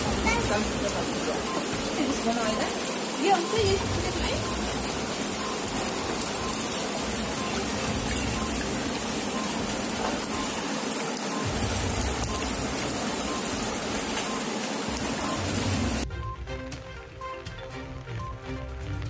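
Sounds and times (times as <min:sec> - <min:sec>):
rushing water hiss: 0:00.0 - 0:16.0.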